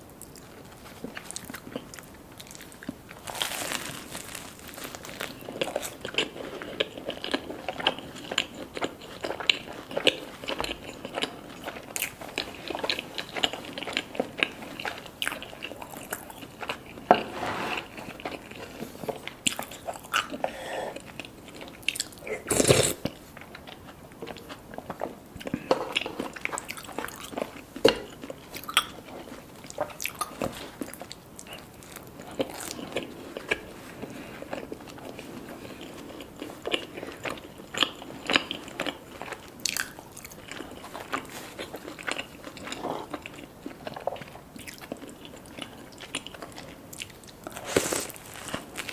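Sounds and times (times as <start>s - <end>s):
person chewing crunchy food: 0.1s - 48.9s.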